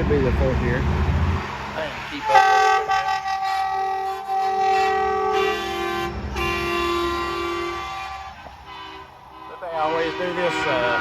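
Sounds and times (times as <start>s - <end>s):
truck air horns blasting: 1.3s - 11.0s.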